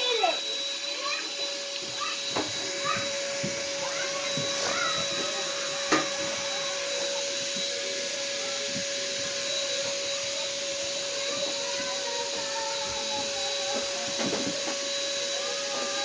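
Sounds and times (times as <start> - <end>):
constant hum: 0.0 - 16.0
whirring hiss: 0.0 - 16.0.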